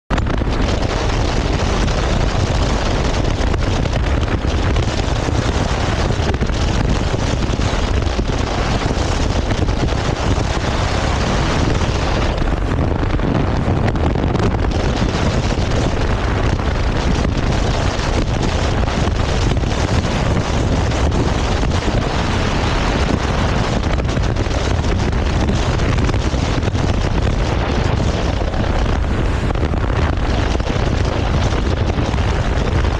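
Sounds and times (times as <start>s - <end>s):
motorcycle low rumble: 0.0s - 32.9s
wind rush on microphone: 0.0s - 32.9s.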